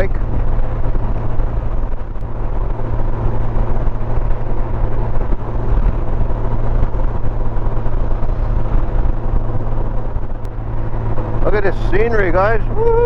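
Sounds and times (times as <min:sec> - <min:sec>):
motorcycle engine drone: 0:00.0 - 0:13.0
rushing air: 0:00.0 - 0:13.0.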